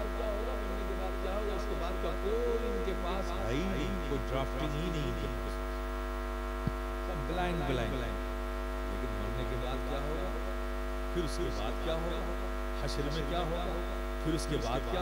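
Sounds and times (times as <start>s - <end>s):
man talking over loudspeakers: 0.0s - 5.8s, 7.1s - 8.2s, 8.9s - 10.5s, 11.1s - 15.0s
electrical hum: 0.0s - 15.0s.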